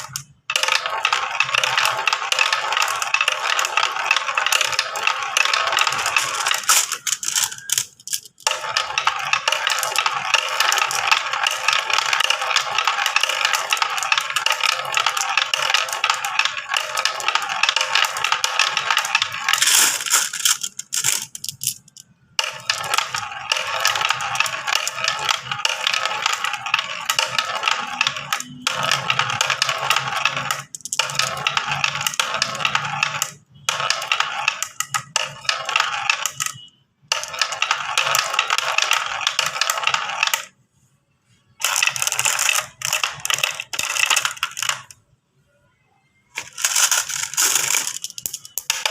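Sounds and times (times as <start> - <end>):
marbles rattling down a track: 0.0 - 40.6, 41.5 - 45.0, 46.3 - 48.9.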